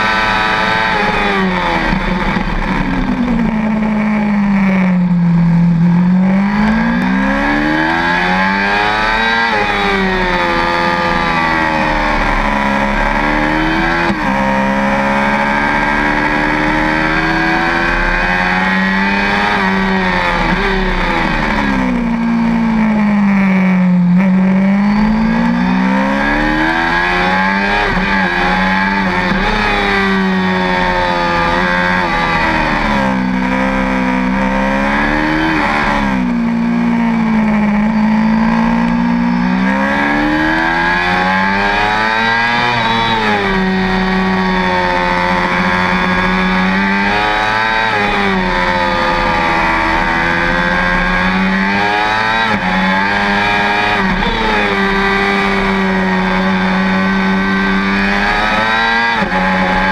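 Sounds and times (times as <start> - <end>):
motorcycle engine at racing speed: 0.0 - 59.9.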